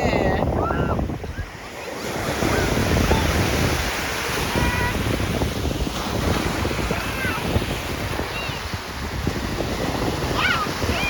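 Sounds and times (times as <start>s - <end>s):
waves breaking on shore: 0.0s - 11.0s
wind buffeting microphone: 0.0s - 11.0s.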